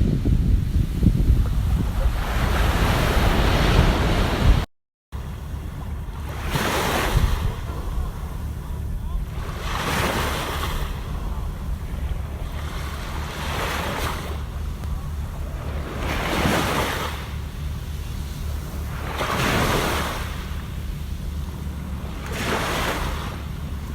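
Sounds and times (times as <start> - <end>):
sea waves breaking on shore: 0.0 - 23.9
wind rumble on microphone: 0.0 - 23.9.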